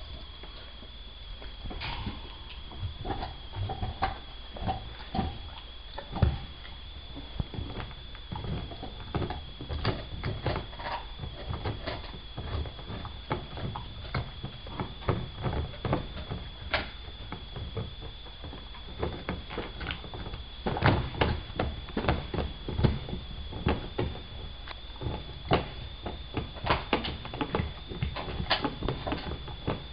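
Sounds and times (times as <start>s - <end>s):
dog gnawing a bone: 0.0s - 29.9s
steady high-pitched whine: 0.0s - 29.9s.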